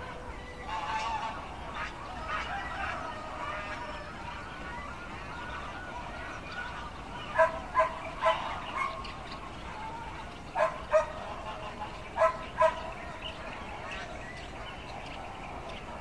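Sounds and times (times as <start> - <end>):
goose honking: 0.0 - 15.0
steady background hum: 0.0 - 16.0.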